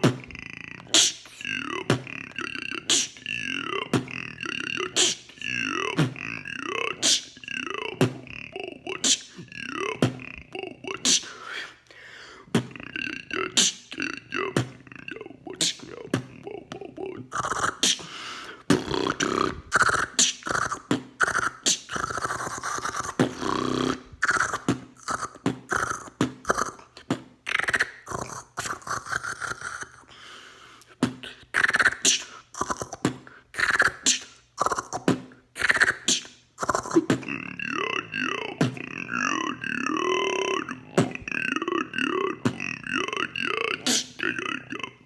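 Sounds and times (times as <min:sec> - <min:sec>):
wavering gliding vocal tones: 0:00.0 - 0:30.1, 0:31.4 - 0:45.0
person beatboxing: 0:00.0 - 0:30.2, 0:30.8 - 0:45.0.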